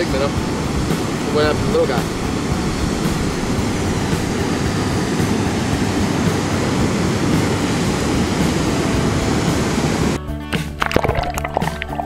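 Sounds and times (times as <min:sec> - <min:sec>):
water roaring from dam outflow: 0:00.0 - 0:10.2.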